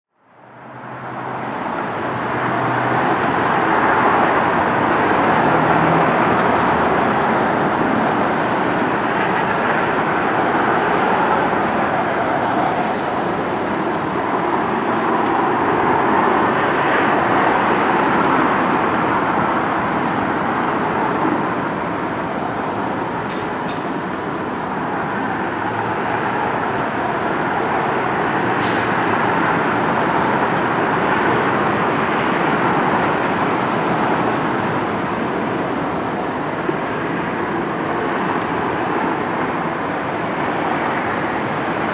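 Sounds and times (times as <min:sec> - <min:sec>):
road traffic noise: 0:00.2 - 0:41.9.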